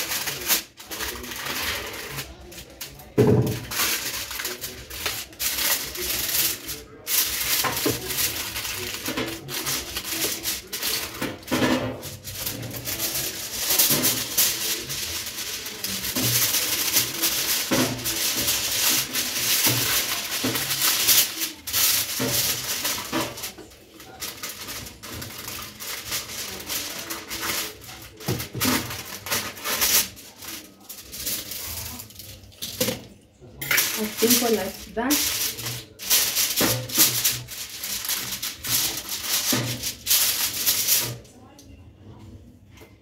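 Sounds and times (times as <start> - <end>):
aluminium foil crinkling: 0.0 - 41.4.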